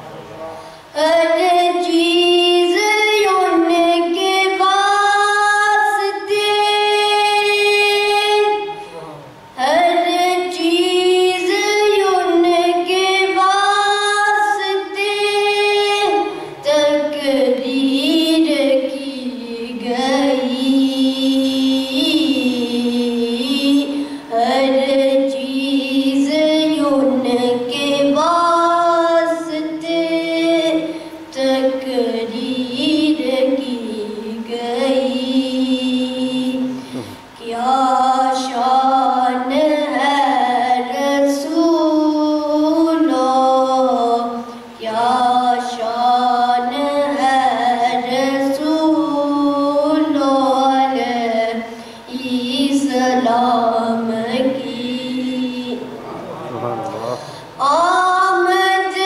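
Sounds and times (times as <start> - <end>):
boy singing unaccompanied: 0.9 - 8.9, 9.5 - 59.0.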